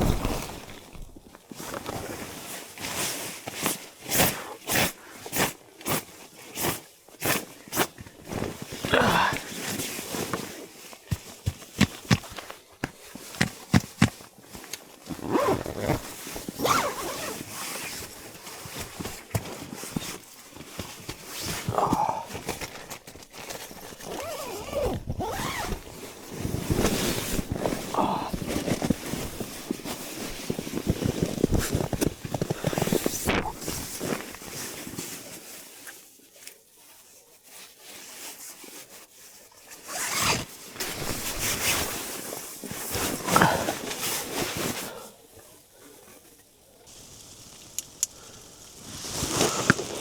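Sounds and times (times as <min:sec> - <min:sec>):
rustling and crunching handling: 0:00.0 - 0:04.4, 0:05.5 - 0:50.0.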